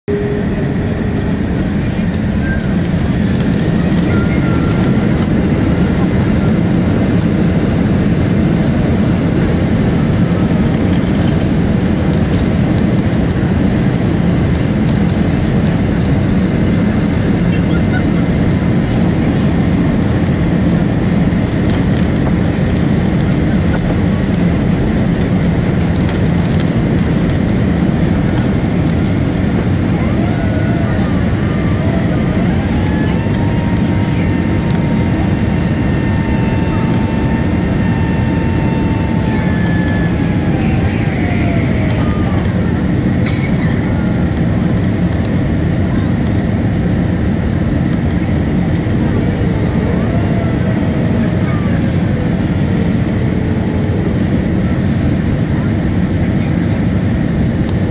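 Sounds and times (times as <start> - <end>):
jet engines roaring: 0.0 - 57.9.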